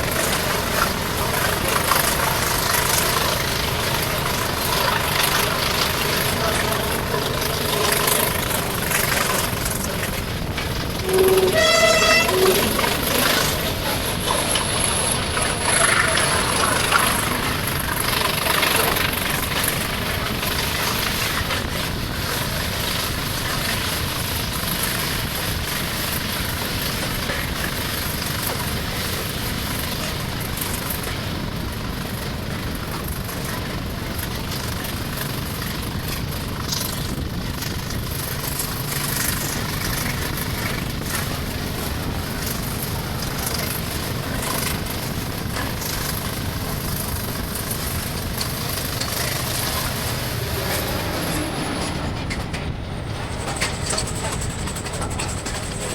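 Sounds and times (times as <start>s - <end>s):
train running: 0.0s - 55.9s.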